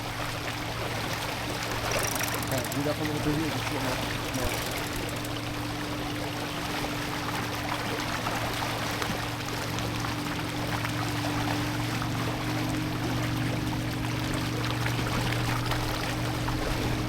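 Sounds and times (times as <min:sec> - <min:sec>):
water rushing along a hull: 0:00.0 - 0:17.0
constant low hum: 0:00.1 - 0:17.0.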